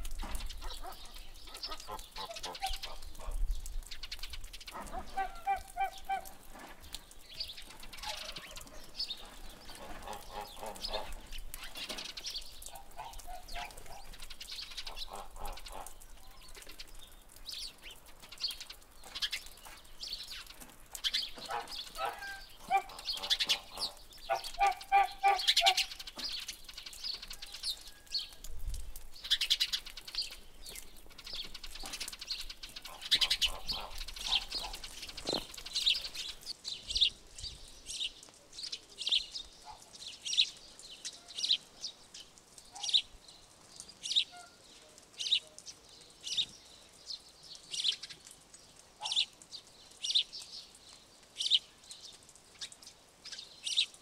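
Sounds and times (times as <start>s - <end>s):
wild birds calling: 0.0s - 28.4s, 29.2s - 51.9s.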